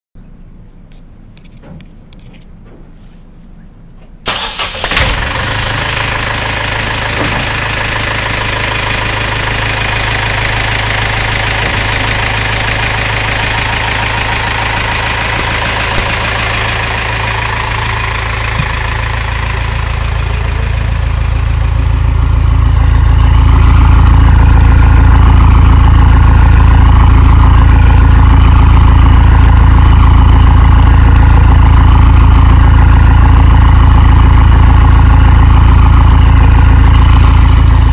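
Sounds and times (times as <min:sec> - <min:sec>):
boat engine running: 0:06.7 - 0:37.9.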